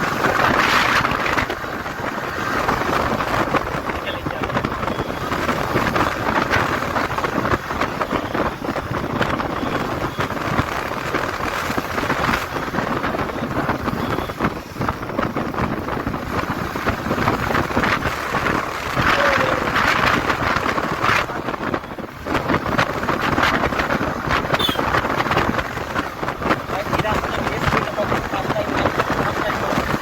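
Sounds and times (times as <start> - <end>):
motorcycle engine and road noise: 0.0 - 30.0
wind rushing over microphone: 0.0 - 30.0.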